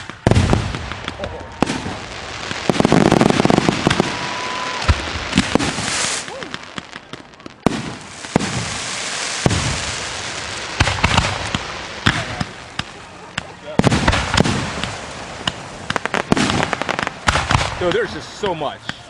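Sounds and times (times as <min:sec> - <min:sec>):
fireworks bangs: 0:00.0 - 0:19.0
fireworks hiss and crackle: 0:00.0 - 0:19.0.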